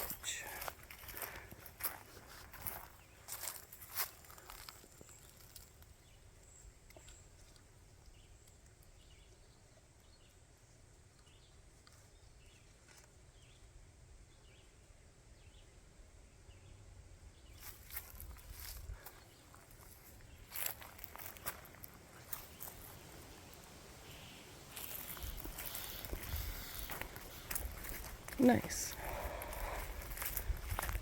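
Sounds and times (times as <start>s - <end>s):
distant birds chirping: 0.0s - 31.0s.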